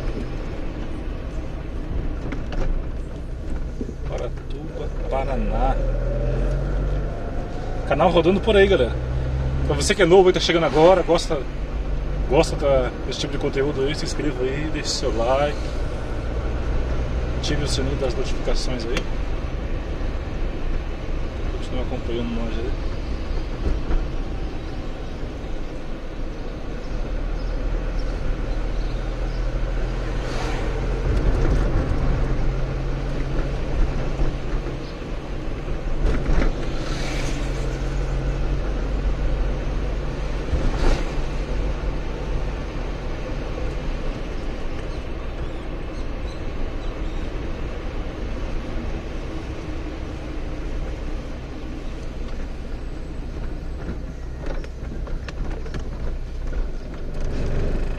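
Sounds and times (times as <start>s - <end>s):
car engine and road noise: 0.0s - 57.9s.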